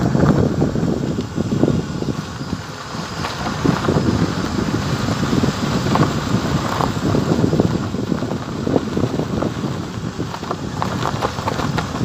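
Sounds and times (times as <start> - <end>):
vehicle rumbling on dirt road: 0.0 - 12.0
wind buffeting microphone: 0.0 - 12.0.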